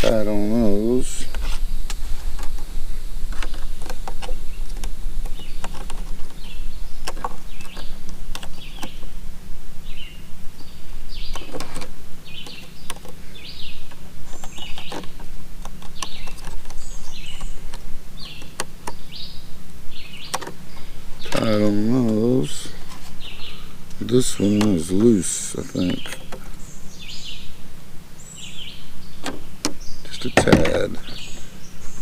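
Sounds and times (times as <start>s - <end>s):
small birds chirping: 0.0s - 32.0s
steady low hum: 0.0s - 32.0s.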